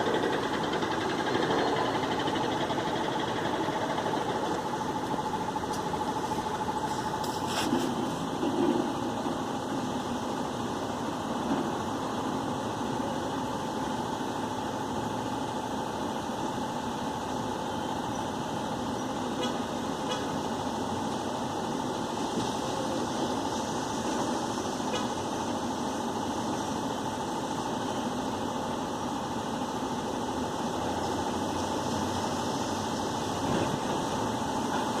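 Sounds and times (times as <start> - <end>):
mechanical hum with steady tone: 0.0 - 35.0.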